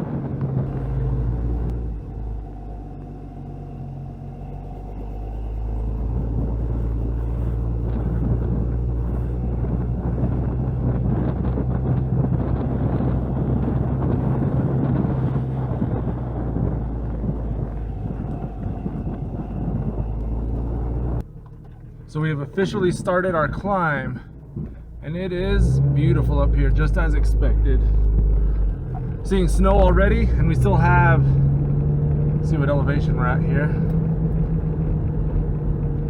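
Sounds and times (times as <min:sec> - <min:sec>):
car engine low hum: 0:00.0 - 0:36.0
tyre road noise: 0:00.0 - 0:36.0.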